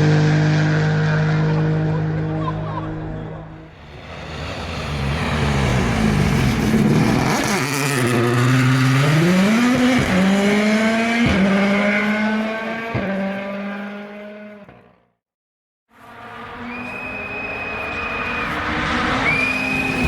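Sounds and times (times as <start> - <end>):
rally car engine accelerating: 0.0 - 15.1, 16.0 - 20.0.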